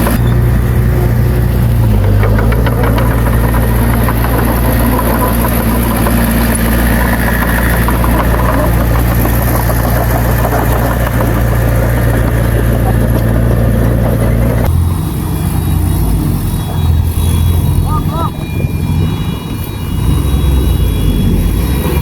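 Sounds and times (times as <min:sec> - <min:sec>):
dense mechanical clatter: 0:00.0 - 0:22.0
diesel engine running: 0:00.0 - 0:22.0.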